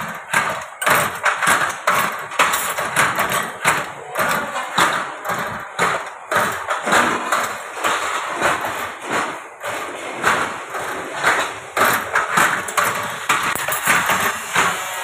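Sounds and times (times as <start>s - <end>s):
machine clattering metal knocks: 0.0s - 15.0s.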